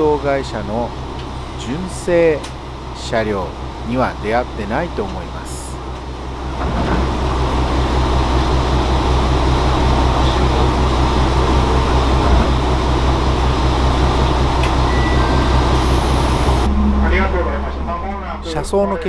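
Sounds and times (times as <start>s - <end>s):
diesel engine drone: 0.0s - 19.0s
rail running noise: 0.0s - 19.0s.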